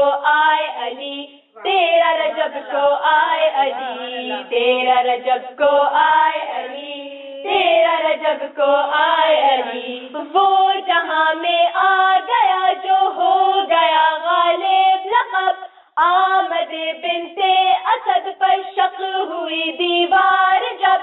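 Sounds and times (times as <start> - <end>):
girls singing devotional song: 0.0 - 21.0.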